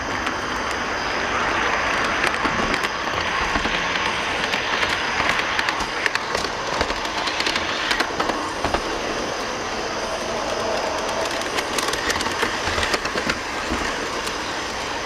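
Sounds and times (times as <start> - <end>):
train running noise: 0.0 - 15.0
train wheels clanking over rail joints: 0.0 - 15.0.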